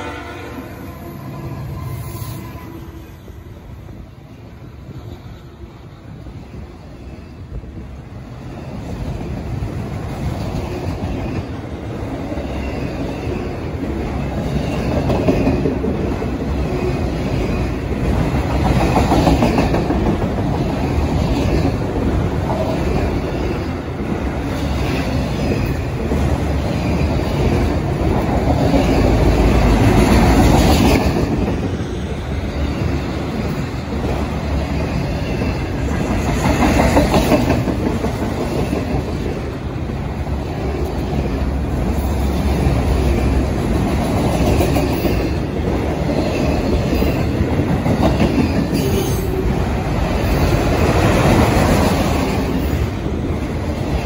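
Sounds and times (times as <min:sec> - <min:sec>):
train wheels rumbling and rattling: 0:03.6 - 0:54.0.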